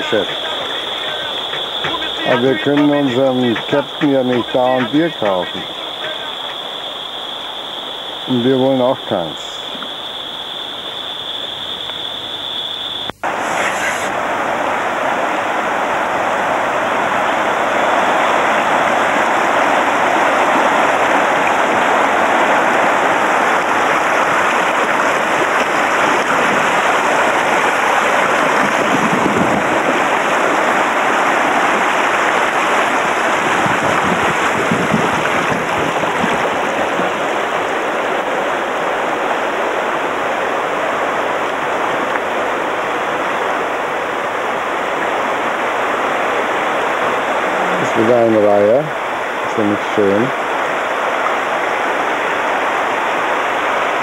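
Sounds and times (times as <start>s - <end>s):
river rapids rushing over stones: 0.0s - 11.9s, 13.2s - 54.0s.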